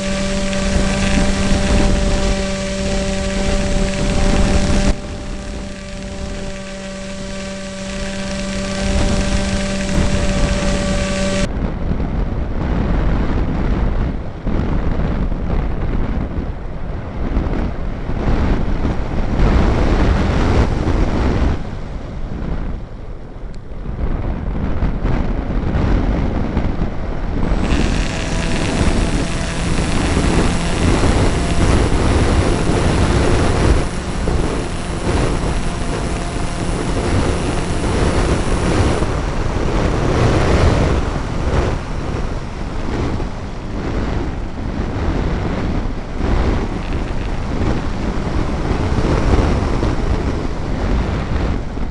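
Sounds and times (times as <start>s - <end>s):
electric motor and propeller hum: 0.0s - 11.5s, 17.0s - 22.4s, 25.1s - 51.9s
wind buffeting microphone: 0.0s - 51.9s.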